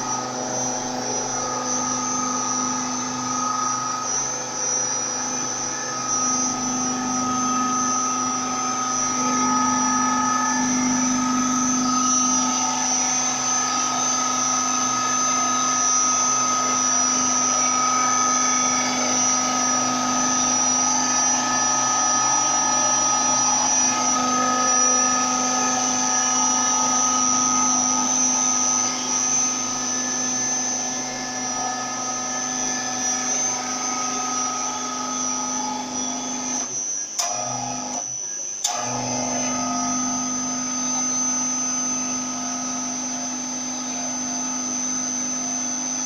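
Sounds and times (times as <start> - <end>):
small electric motor whine: 0.0 - 46.0.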